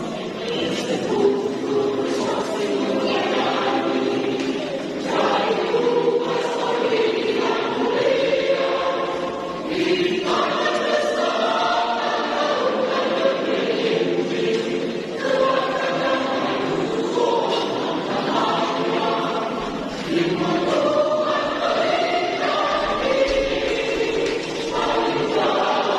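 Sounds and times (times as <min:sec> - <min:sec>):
church choir singing: 0:00.0 - 0:25.9.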